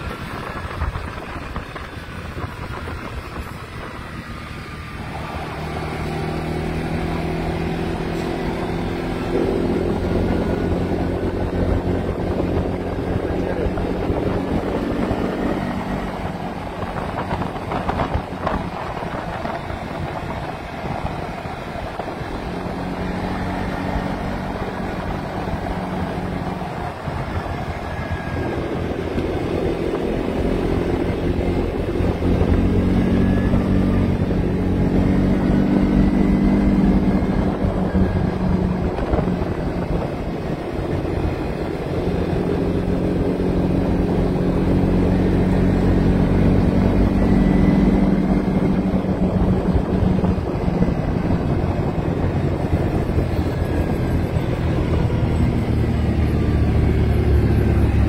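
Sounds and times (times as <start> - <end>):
atv engine running: 0.0 - 58.0
rushing wind noise: 0.0 - 58.0.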